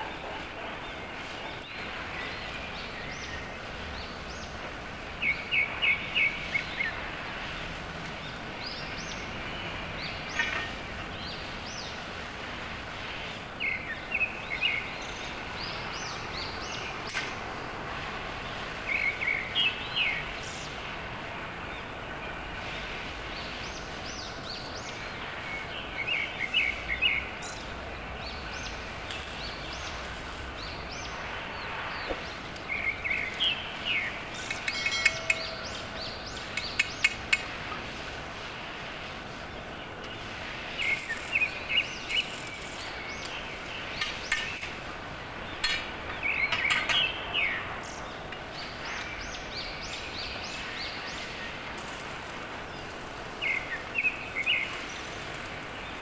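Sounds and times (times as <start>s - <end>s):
small birds chirping: 0.0s - 20.9s, 21.6s - 56.0s
welding arc crackling hiss: 0.0s - 46.1s, 47.7s - 56.0s.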